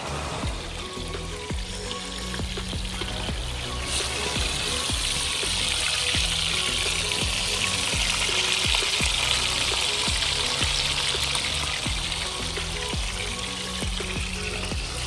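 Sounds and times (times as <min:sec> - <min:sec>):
music with bass beat: 0:00.0 - 0:15.0
food deep-frying in oil: 0:00.4 - 0:15.0.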